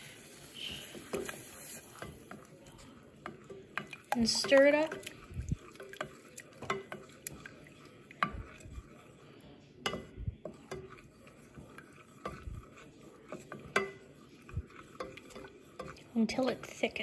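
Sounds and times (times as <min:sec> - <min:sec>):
wooden spoon scraping a saucepan: 0:00.0 - 0:17.0.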